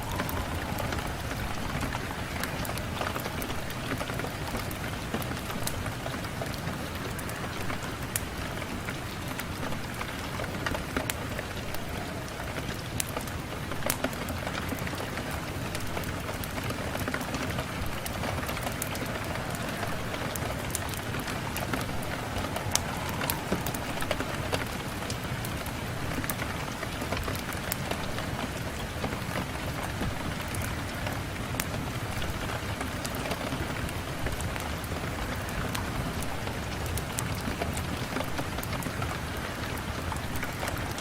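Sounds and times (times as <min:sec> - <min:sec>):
rain on a window: 0:00.0 - 0:41.0.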